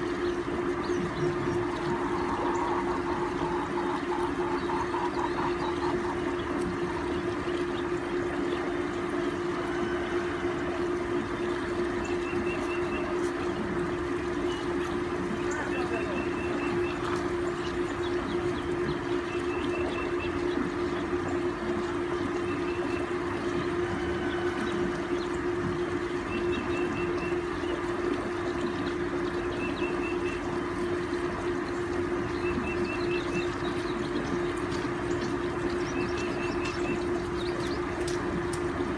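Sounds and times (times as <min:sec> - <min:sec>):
even noise wash: 0:00.0 - 0:38.9
motor humming: 0:00.0 - 0:38.9.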